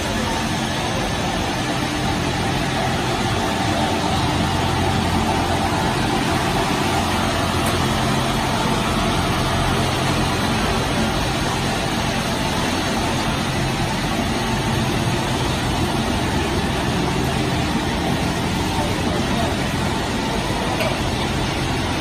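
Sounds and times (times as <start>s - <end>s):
machine noise with low hum: 0.0s - 22.0s.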